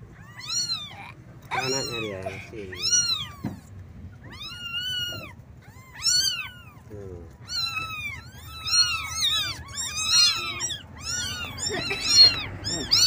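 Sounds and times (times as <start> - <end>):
kittens meowing: 0.0 - 13.0.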